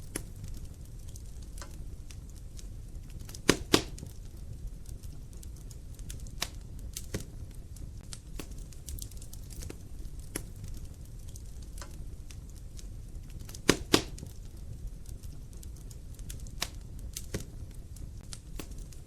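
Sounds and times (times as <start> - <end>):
low rumble of flame: 0.0 - 19.0
wood fire crackling and popping: 0.0 - 19.0.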